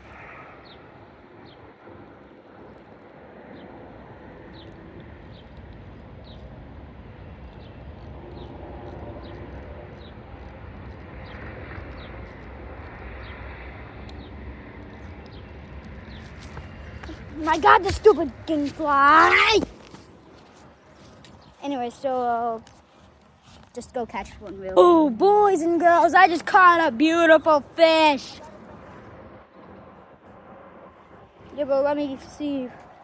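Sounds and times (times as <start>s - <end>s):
low rumble of distant engines: 0.0s - 33.0s.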